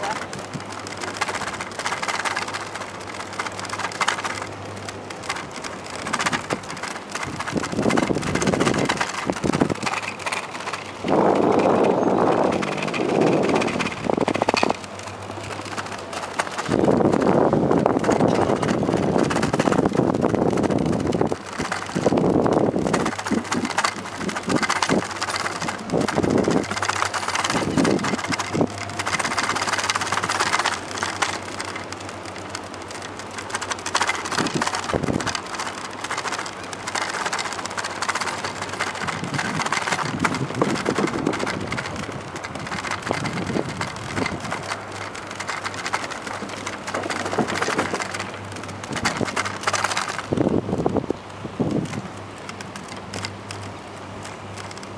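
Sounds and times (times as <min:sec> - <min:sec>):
bicycle rattling over wooden boardwalk: 0:00.0 - 0:54.9.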